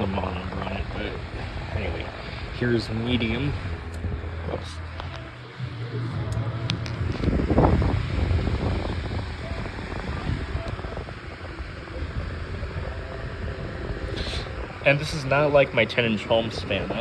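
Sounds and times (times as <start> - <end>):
table fan air rushing: 0.0 - 17.0.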